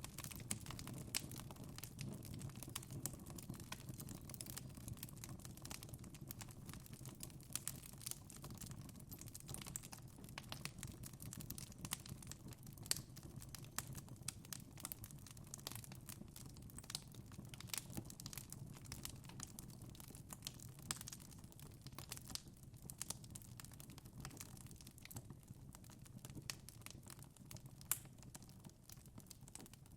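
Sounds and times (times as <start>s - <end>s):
burning logs crackling and popping: 0.0s - 29.9s.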